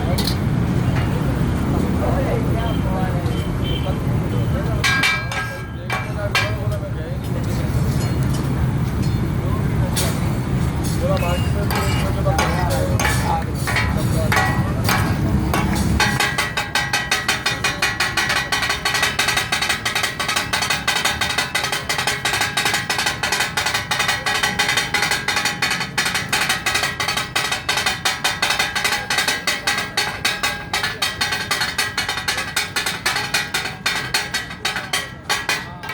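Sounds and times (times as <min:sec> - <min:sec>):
metal spatulas striking griddle: 0:00.0 - 0:01.2, 0:04.8 - 0:06.9, 0:10.0 - 0:35.9.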